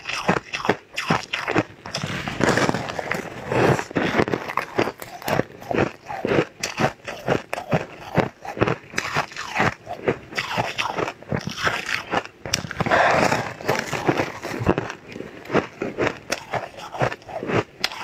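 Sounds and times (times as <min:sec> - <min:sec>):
person crunching food: 0:00.0 - 0:18.0.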